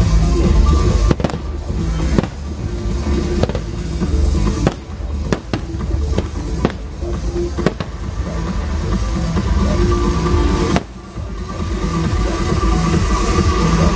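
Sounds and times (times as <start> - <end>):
music playing: 0.0 - 13.9
fireworks bangs: 0.6 - 12.2.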